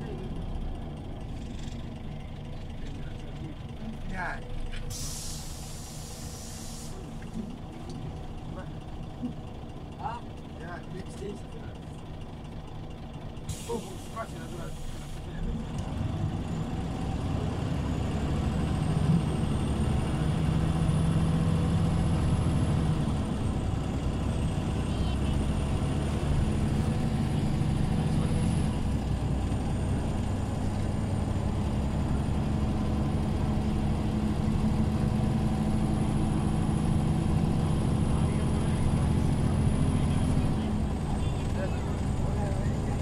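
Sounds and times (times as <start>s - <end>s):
bus engine drone: 0.0s - 43.0s.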